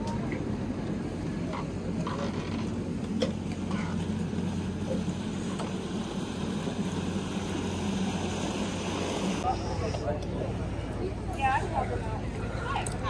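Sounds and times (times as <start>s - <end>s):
boat engine droning: 0.0s - 13.0s
propeller churning water: 0.0s - 13.0s.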